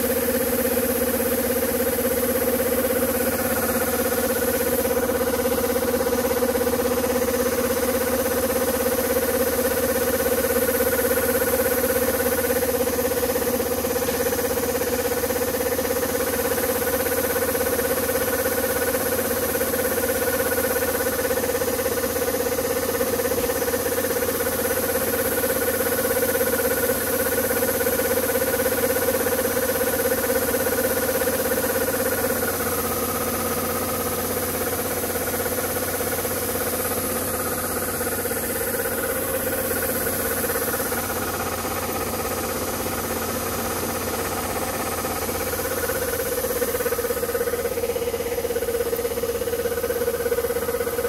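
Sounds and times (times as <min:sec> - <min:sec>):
combine harvester engine running: 0:00.0 - 0:51.0.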